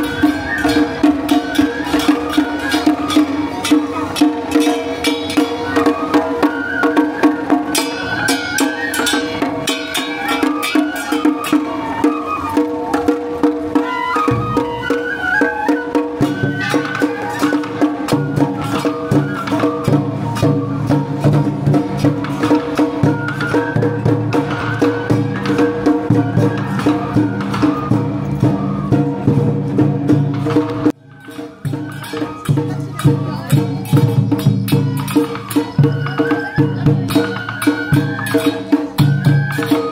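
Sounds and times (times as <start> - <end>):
drum and percussion strikes: 0.0 - 39.9
transverse flutes melody: 0.0 - 39.9.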